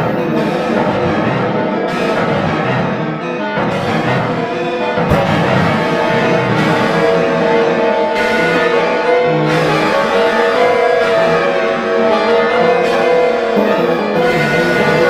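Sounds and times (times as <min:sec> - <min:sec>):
sustained instrument chords: 0:00.0 - 0:15.0.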